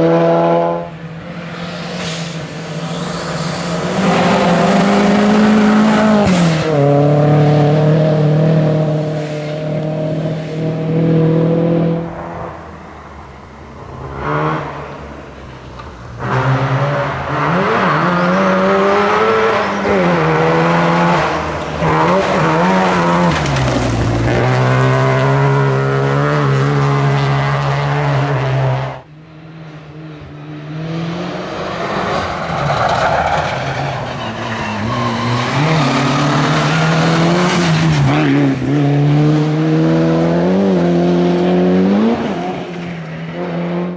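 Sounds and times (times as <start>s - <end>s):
rally car engine revving: 0.0s - 12.6s, 13.8s - 15.2s, 15.8s - 43.9s.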